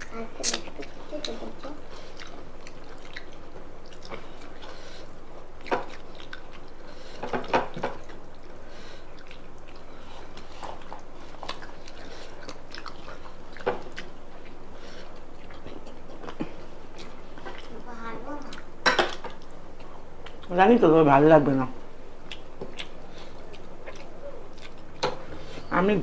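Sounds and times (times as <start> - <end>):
person chewing food: 0.0 - 20.6, 21.8 - 25.7.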